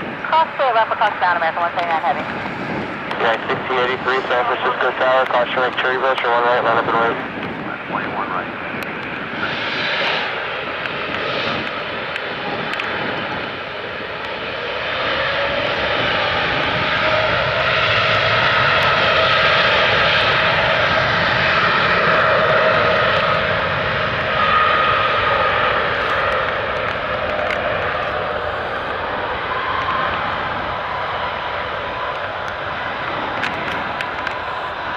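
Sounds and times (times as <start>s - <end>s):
engine fan whine: 0.0s - 34.9s
jet engines at takeoff power: 0.0s - 34.9s.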